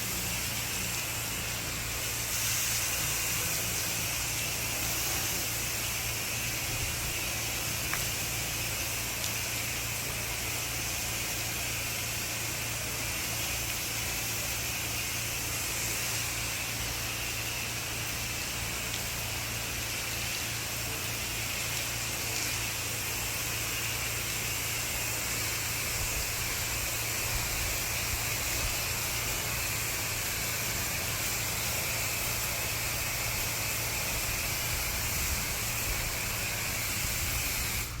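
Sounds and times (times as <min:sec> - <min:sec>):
pressure washer jet hissing: 0:00.0 - 0:38.0.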